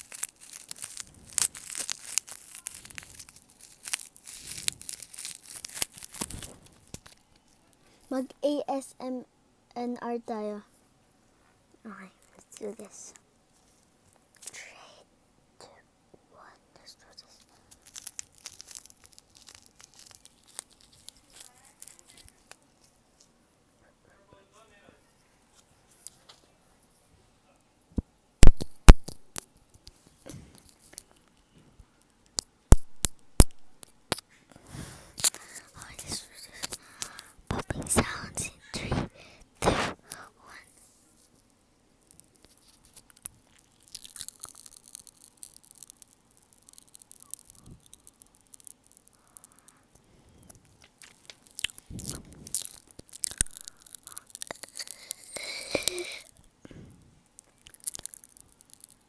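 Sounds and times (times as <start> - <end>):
popping candy crackling: 0.0 - 8.6, 11.9 - 13.2, 14.1 - 15.0, 16.4 - 23.4, 28.0 - 59.0.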